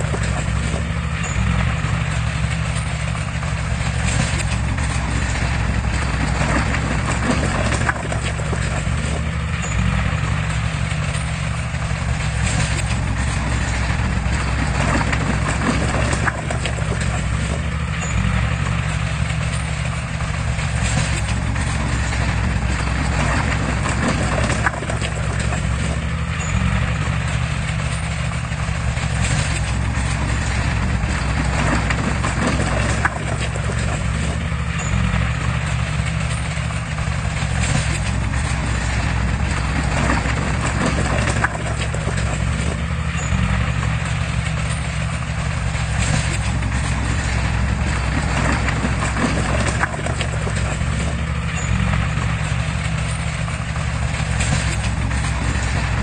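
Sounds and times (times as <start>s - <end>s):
heavy diesel engine running: 0.0s - 56.0s
metallic clatter: 0.0s - 56.0s.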